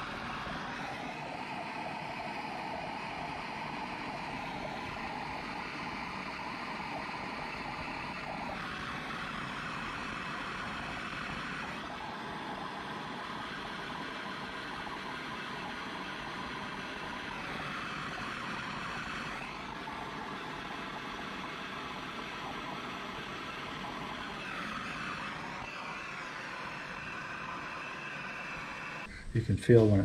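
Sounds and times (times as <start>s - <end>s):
gas torch hissing: 0.0s - 29.1s.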